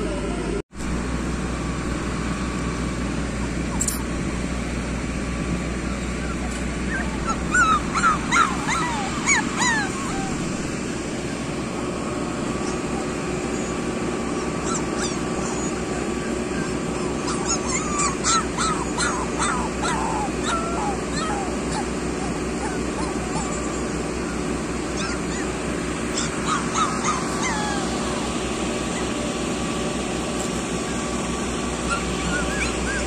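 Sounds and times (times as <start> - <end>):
puppies whimpering and yipping: 3.4 - 4.1, 5.4 - 33.0.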